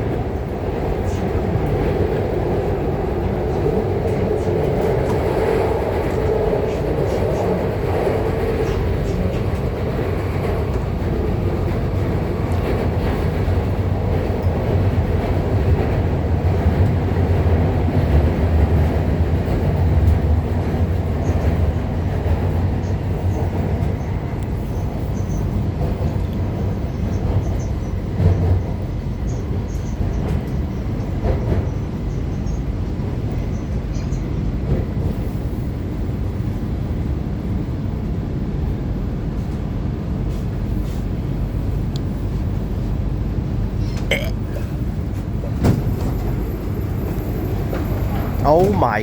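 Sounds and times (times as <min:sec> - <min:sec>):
train wheels rumbling: 0:00.0 - 0:49.0.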